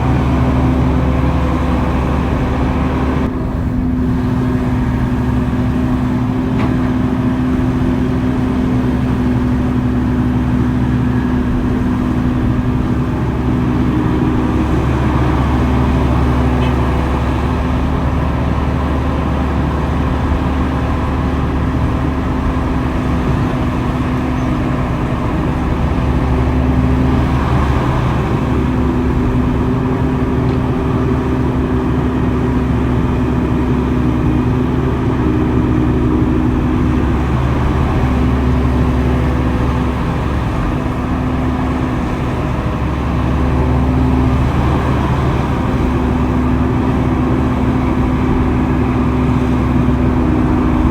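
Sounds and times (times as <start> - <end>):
heavy machinery diesel engine running: 0.0 - 50.9.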